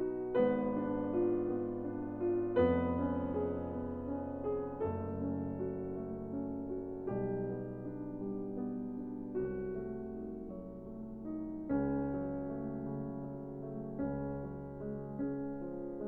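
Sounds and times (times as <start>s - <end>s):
gentle slow piano music: 0.0s - 16.0s.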